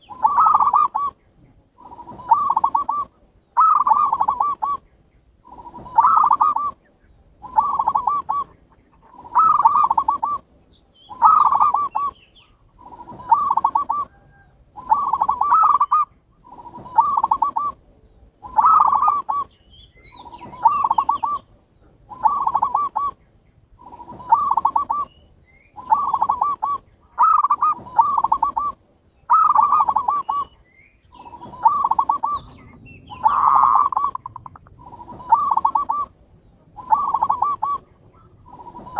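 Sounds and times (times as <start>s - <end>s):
dove cooing: 0.0s - 1.2s, 1.8s - 10.5s, 11.1s - 38.9s.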